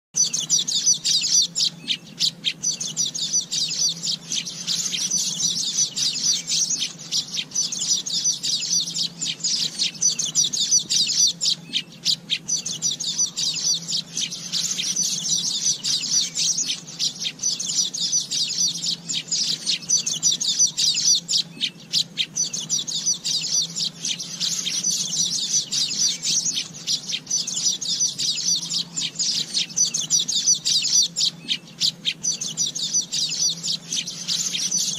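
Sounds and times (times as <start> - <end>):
bird chattering: 0.2 - 34.9.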